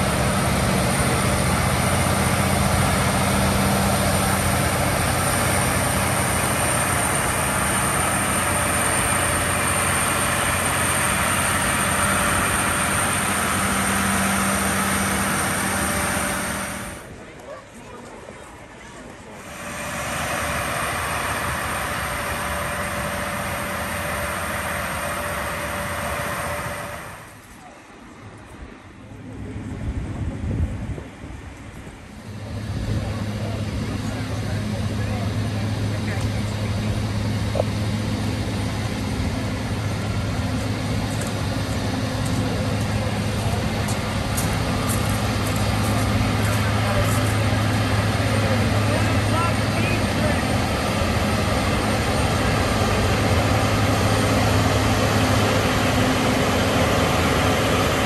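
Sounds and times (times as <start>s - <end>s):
locomotive engine idling: 0.0s - 17.4s, 19.2s - 28.2s, 32.1s - 58.0s
steady whine: 0.0s - 17.4s, 18.3s - 58.0s.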